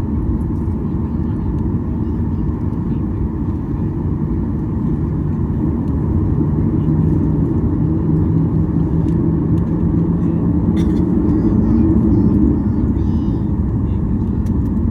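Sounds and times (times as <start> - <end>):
jet engines rumbling inside cabin: 0.0 - 14.9.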